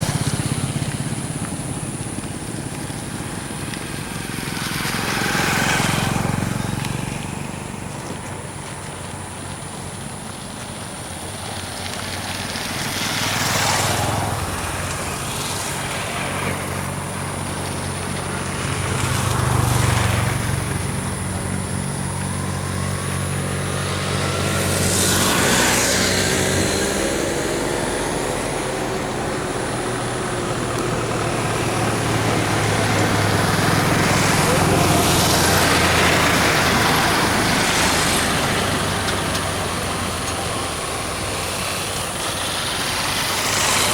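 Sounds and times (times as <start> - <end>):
engine accelerating: 0.0 - 43.9
low engine hum: 0.0 - 43.9
vehicles passing: 0.0 - 43.9.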